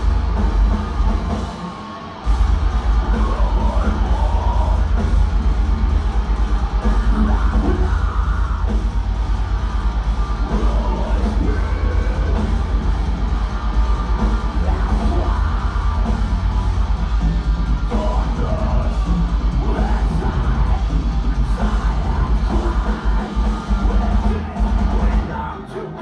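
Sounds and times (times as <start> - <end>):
bass and drums: 0.0 - 26.0
heavy distorted guitars: 0.0 - 26.0.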